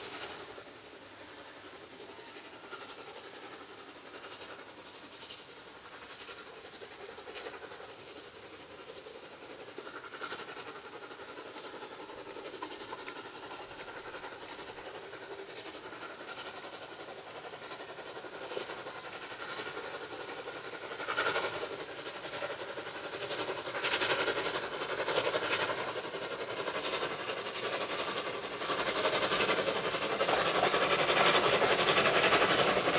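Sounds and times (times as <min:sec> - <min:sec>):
steam locomotive running: 0:00.0 - 0:32.9.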